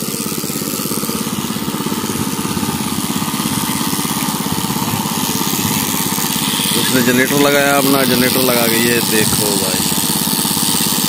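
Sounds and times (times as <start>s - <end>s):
portable generator engine running: 0.0s - 11.0s.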